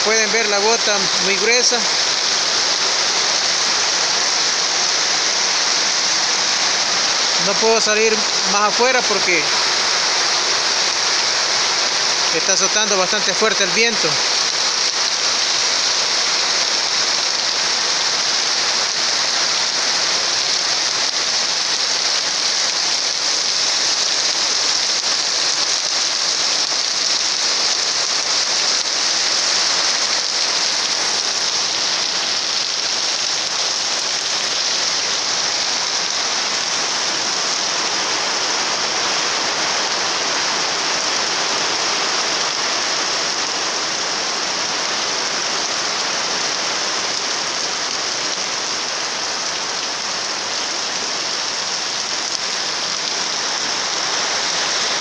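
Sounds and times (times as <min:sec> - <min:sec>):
heavy rain on metal roofs: 0:00.0 - 0:55.0.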